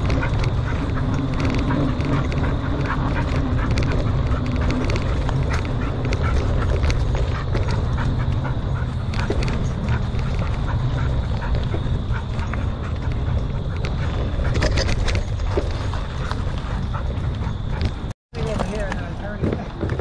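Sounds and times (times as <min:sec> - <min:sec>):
bike rattling and clicking: 0:00.0 - 0:20.0
tyres rumbling on dirt: 0:00.0 - 0:20.0
wind on microphone: 0:00.0 - 0:20.0.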